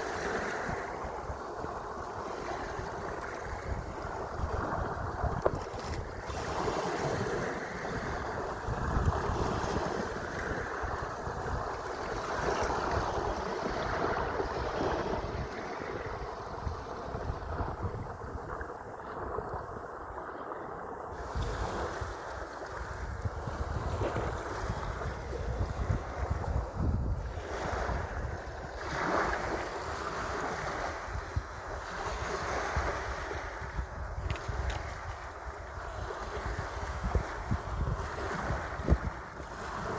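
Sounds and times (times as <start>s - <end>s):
sea waves washing: 0.0s - 39.9s
wind buffeting microphone: 0.0s - 39.9s.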